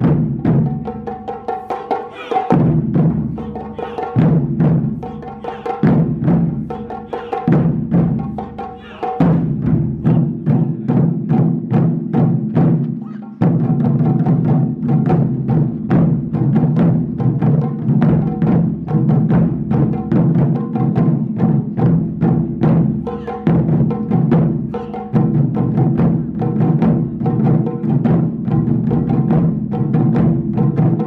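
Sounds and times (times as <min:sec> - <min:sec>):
taiko drums beating: 0:00.0 - 0:31.0.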